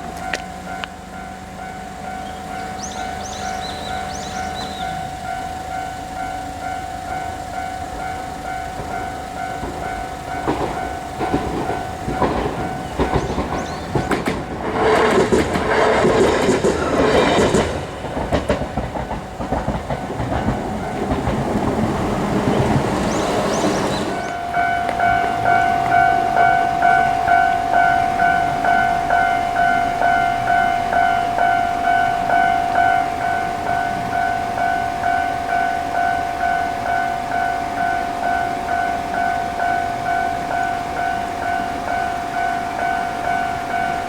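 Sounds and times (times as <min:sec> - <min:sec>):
level crossing warning bell: 0:00.0 - 0:44.0
train wheels clattering: 0:00.0 - 0:44.0.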